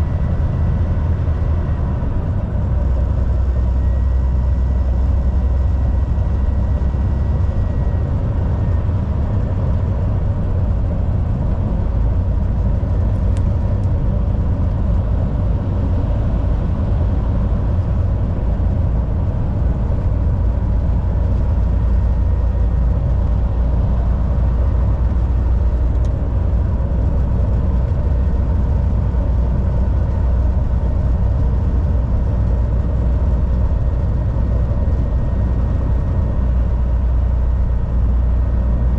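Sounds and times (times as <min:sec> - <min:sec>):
truck engine and road drone: 0:00.0 - 0:38.9.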